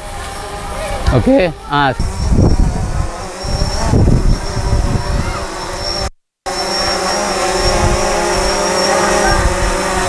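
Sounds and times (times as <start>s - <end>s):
drone propellers buzzing: 0.0s - 10.0s.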